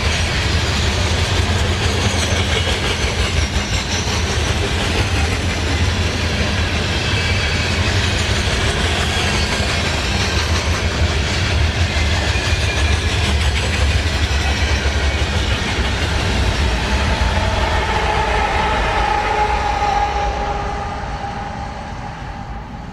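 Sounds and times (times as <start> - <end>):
train wheels rumbling and clattering: 0.0 - 22.9.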